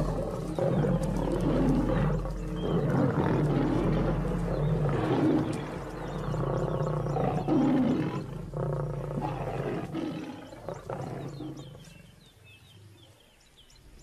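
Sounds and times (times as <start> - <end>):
lions growling and roaring: 0.0 - 13.3.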